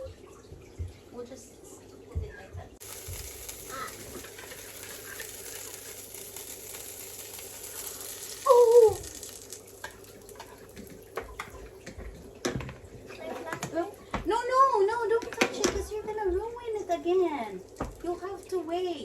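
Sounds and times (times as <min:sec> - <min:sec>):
batter sizzling in a frying pan: 0:02.8 - 0:15.9, 0:16.6 - 0:19.0.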